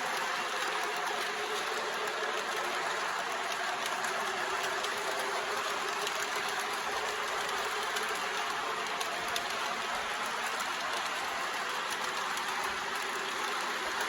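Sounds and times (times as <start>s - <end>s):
model locomotive motors whirring: 0.0s - 14.0s.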